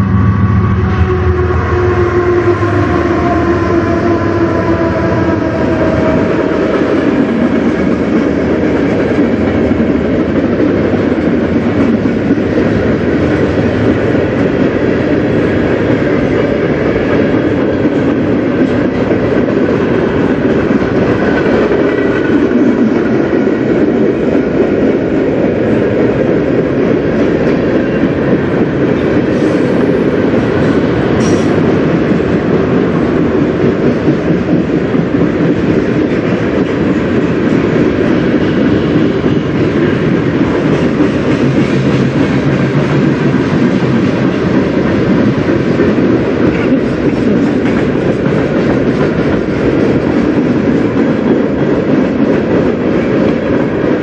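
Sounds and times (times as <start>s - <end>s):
freight train rumble: 0.0s - 54.0s
locomotive engine hum: 0.0s - 54.0s
train wheels clattering over rails: 1.4s - 54.0s.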